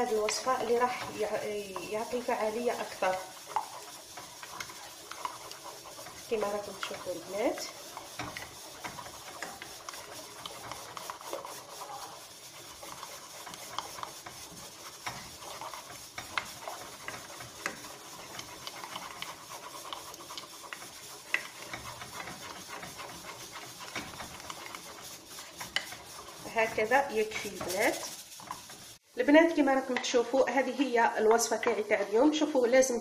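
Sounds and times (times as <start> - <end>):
utensil scraping a pan: 0.0 - 29.1
oil sizzling: 0.0 - 29.7.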